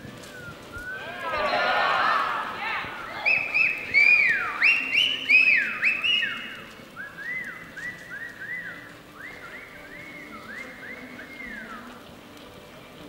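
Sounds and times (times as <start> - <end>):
shrill whistling: 0.2 - 2.4, 3.1 - 12.0.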